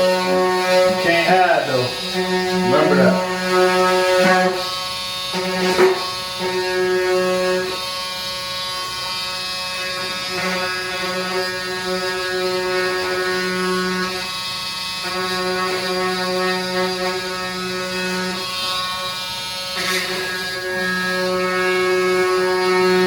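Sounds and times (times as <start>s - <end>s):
small power tool buzzing: 0.0s - 23.0s.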